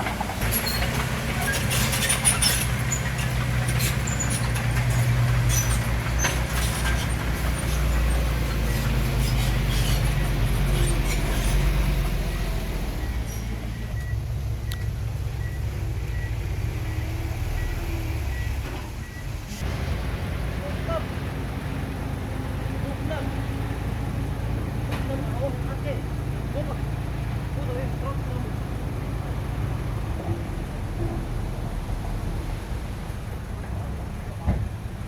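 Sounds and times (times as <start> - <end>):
bulldozer diesel engine: 0.0 - 35.0.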